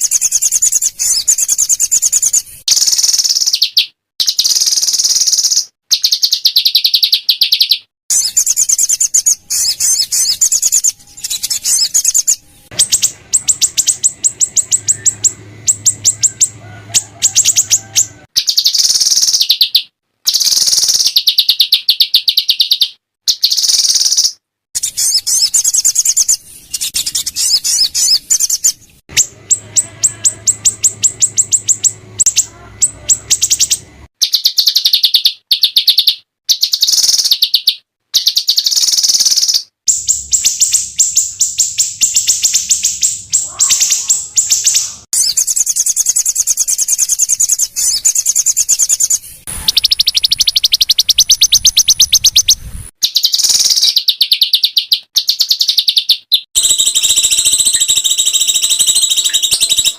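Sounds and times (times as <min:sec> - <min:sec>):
songbirds chattering: 0:00.0 - 0:59.9.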